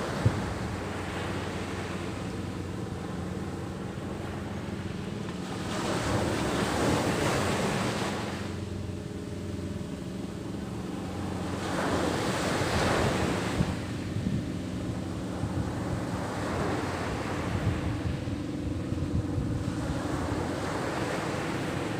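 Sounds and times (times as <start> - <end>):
surf washing onto beach: 0.0 - 9.0, 11.1 - 21.9
steady low hum: 0.0 - 21.9.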